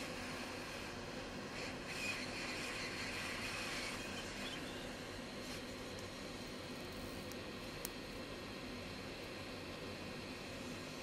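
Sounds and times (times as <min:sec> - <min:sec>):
hot air station airflow hiss: 0:00.0 - 0:11.0.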